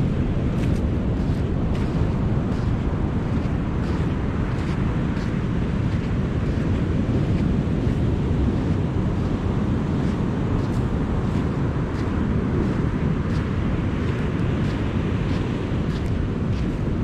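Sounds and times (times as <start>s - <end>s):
faint footsteps on sand: 0.0s - 17.0s
surf washing in: 0.0s - 17.0s
wind buffeting the microphone: 0.0s - 17.0s.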